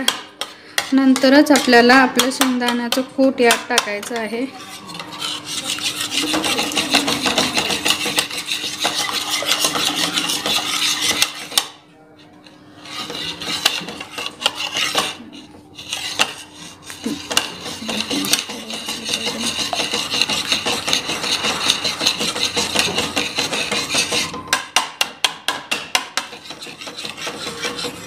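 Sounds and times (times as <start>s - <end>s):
metal spoon scraping in pan: 0.0s - 28.0s.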